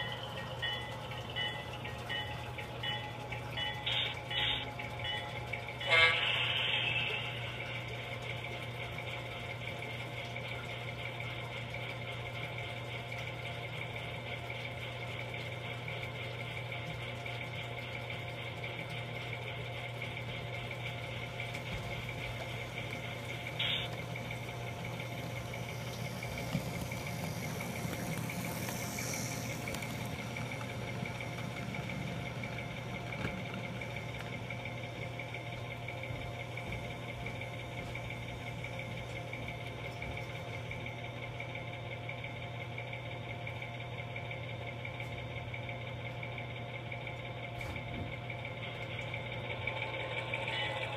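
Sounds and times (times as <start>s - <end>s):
model locomotive engine hum: 0.0s - 50.9s.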